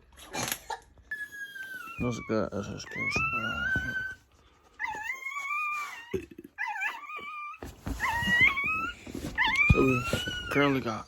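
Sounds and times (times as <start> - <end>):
puppies squealing: 1.1 - 11.0.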